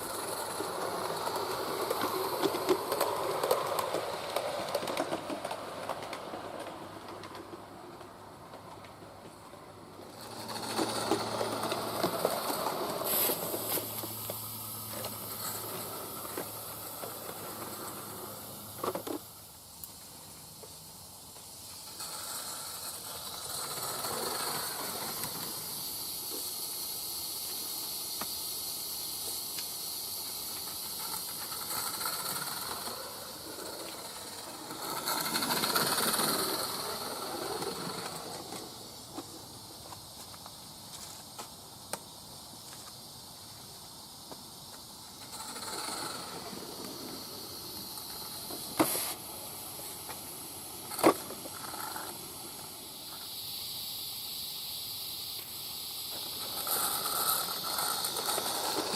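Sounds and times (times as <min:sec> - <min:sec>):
hiss of steam: 0:00.0 - 0:58.9
steam locomotive running: 0:00.0 - 0:58.9.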